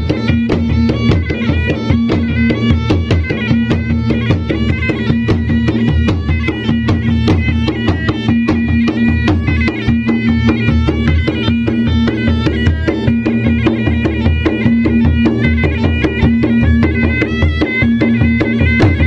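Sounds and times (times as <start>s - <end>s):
drums played in fast strokes: 0.0s - 19.0s
reedy wind instrument melody: 0.0s - 19.0s.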